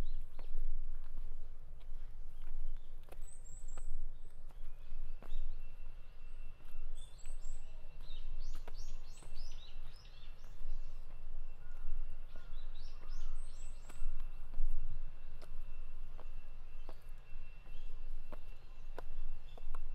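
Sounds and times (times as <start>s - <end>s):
footsteps on a path: 0.0s - 19.9s
small birds chirping: 0.0s - 19.9s.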